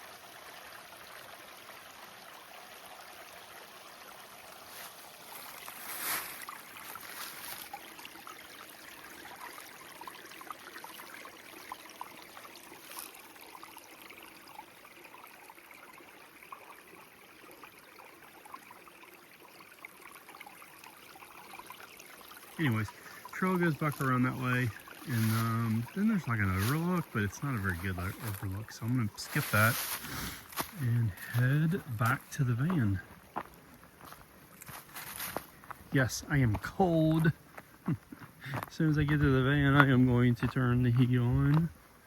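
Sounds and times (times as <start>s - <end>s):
creek babbling over rocks: 0.0s - 42.0s.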